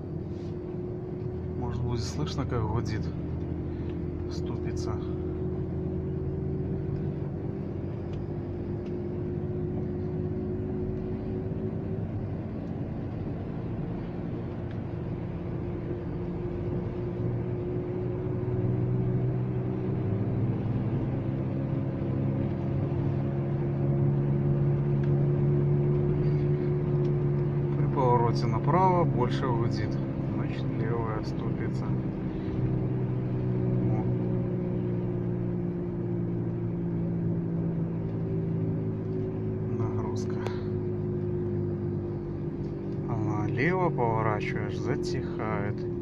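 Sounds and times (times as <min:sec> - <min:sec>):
road noise: 0:00.0 - 0:46.0.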